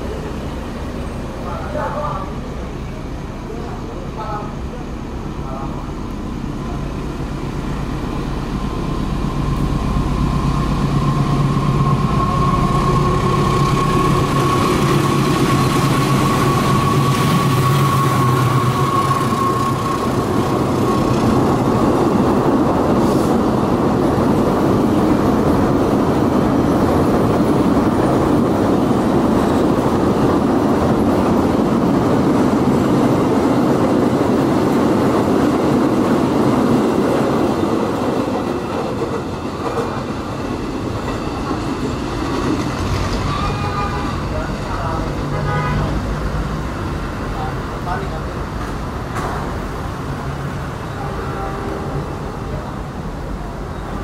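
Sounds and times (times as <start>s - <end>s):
diesel locomotive engine whining: 0.0s - 54.0s.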